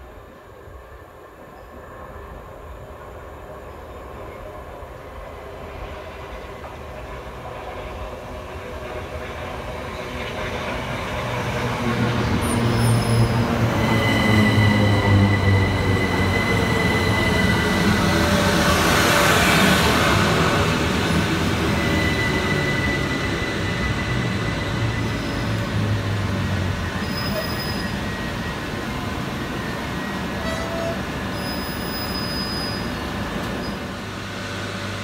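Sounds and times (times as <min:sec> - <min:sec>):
electric train approaching: 0:00.1 - 0:35.0.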